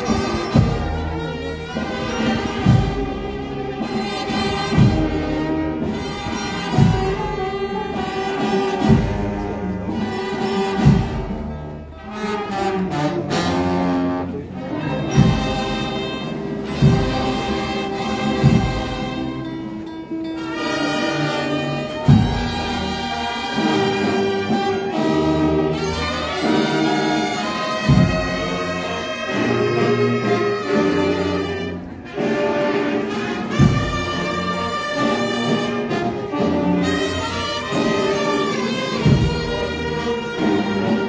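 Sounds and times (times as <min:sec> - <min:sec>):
brass band playing a slow march: 0:00.0 - 0:41.0.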